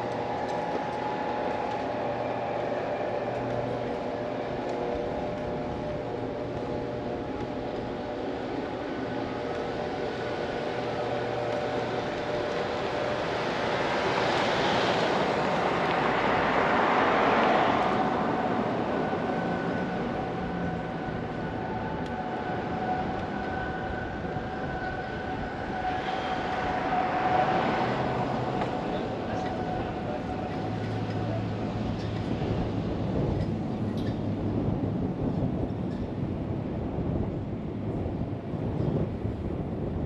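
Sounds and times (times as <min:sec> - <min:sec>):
vehicles passing: 0:00.0 - 0:34.8
wind on microphone: 0:03.0 - 0:40.0.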